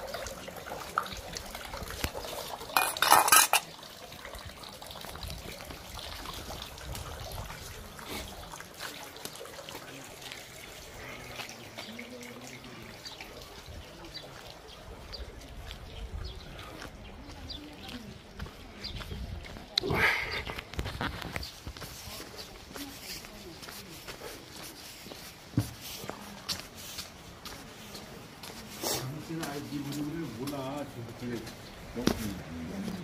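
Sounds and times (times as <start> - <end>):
fountain water trickling: 0.0 - 33.0.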